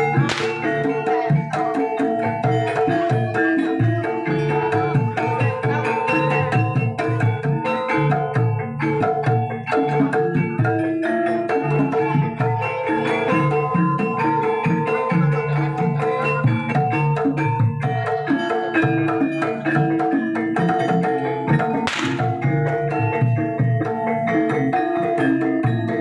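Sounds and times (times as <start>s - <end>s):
hand drums driving rhythm: 0.0s - 26.0s
struck mallet instrument notes: 0.0s - 26.0s.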